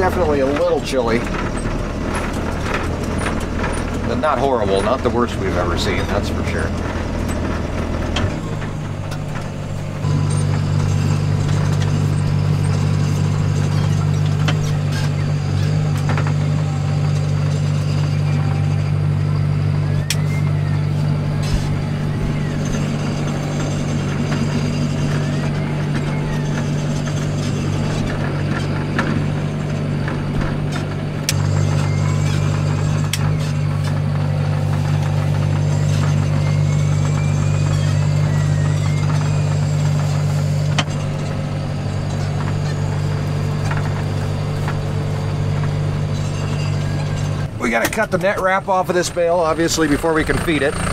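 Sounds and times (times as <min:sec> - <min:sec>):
light clicks and squeaks: 0:00.0 - 0:50.9
tractor diesel engine running: 0:00.0 - 0:50.9.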